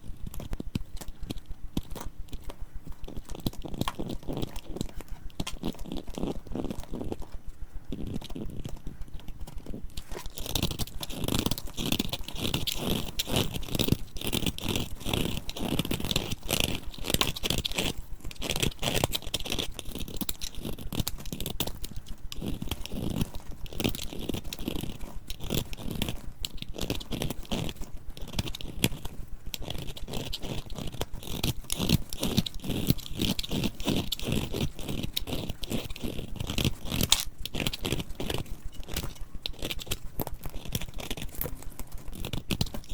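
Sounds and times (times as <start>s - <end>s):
dry soap crunching: 0.0s - 42.9s.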